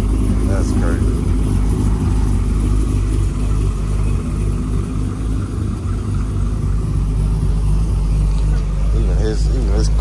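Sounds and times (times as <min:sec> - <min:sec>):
car exhaust rumbling: 0:00.0 - 0:10.0.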